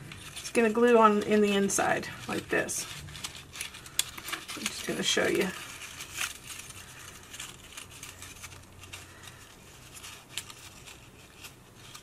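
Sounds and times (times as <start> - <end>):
cardstock rustling: 0.0 - 12.0.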